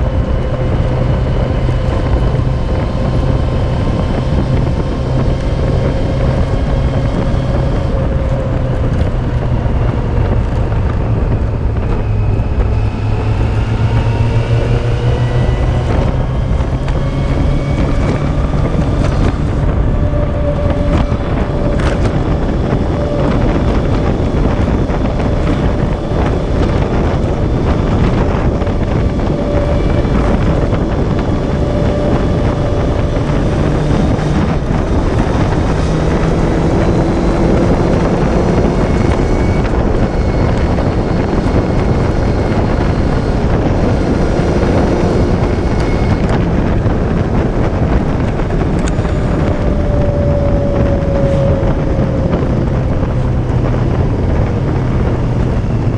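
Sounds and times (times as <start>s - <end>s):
motorcycle engine: 0.0s - 55.9s
wind rushing on microphone: 0.0s - 55.9s.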